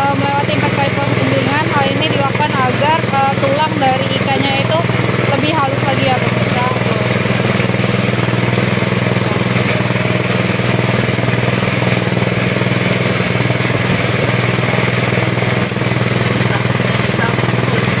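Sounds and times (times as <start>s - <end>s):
meat grinder motor humming: 0.0s - 18.0s.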